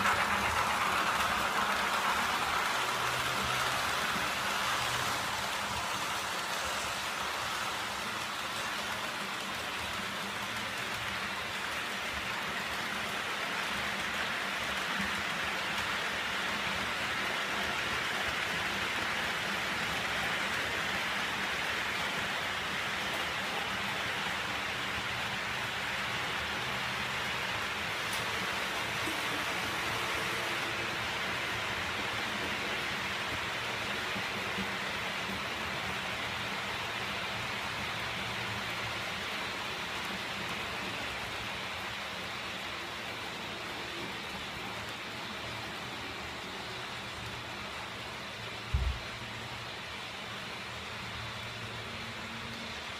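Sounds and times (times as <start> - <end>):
model train wheels rolling on track: 0.0 - 52.9.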